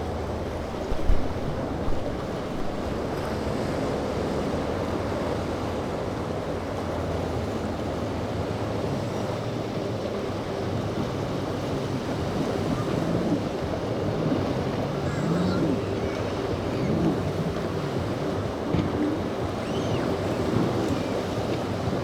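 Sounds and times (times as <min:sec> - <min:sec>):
surf rushing: 0:00.0 - 0:05.9, 0:09.1 - 0:22.0
wind buffeting microphone: 0:00.0 - 0:06.7, 0:08.5 - 0:22.0
faint boat engine hum: 0:00.0 - 0:22.0.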